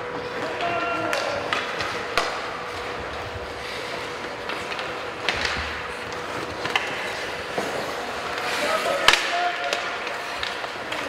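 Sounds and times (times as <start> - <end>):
hockey sticks clacking on puck: 0.0 - 11.0
skate blades scraping on ice: 0.2 - 11.0.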